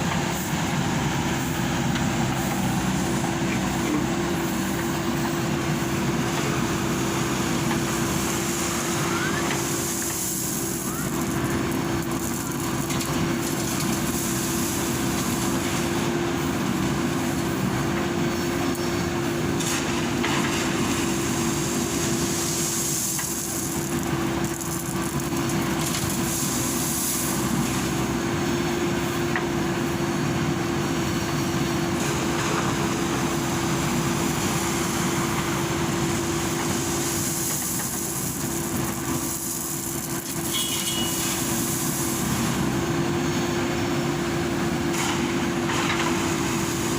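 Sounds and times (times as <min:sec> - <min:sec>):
heavy diesel engine humming: 0:00.0 - 0:46.9.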